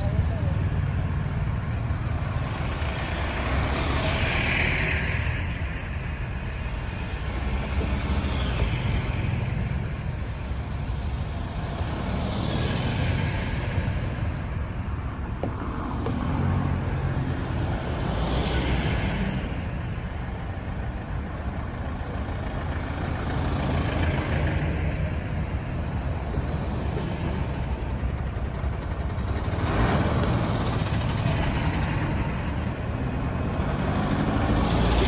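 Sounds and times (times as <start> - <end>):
road traffic rumble: 0.0 - 35.0
vehicles passing: 0.0 - 35.0.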